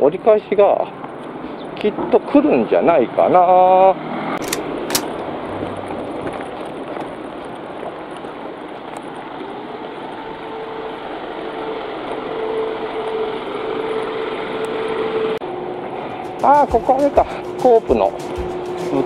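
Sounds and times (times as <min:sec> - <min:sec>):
road traffic noise: 0:00.0 - 0:19.0
vehicle engine hum: 0:00.0 - 0:19.0.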